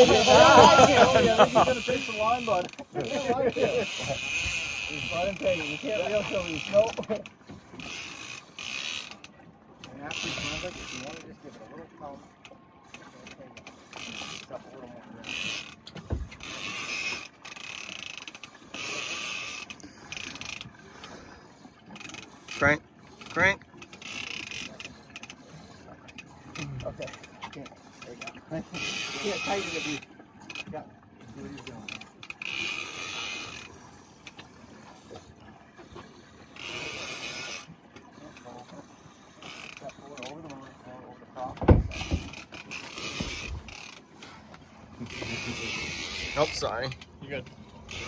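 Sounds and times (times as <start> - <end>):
fishing reel gears whirring: 0.0 - 48.0.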